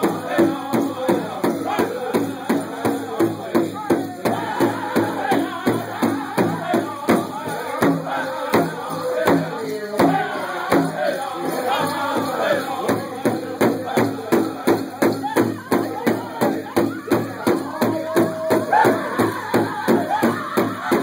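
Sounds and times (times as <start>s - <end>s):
men singing in chorus: 0.0s - 21.0s.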